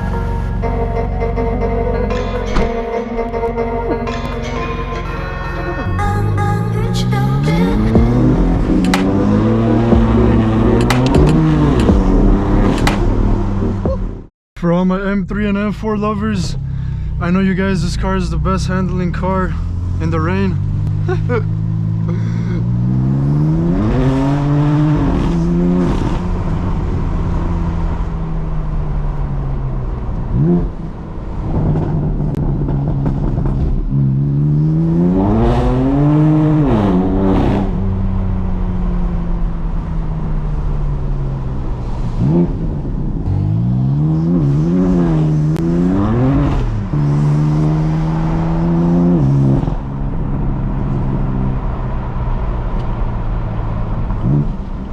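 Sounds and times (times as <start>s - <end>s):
car engine accelerating hard: 6.7s - 14.3s, 16.3s - 54.9s.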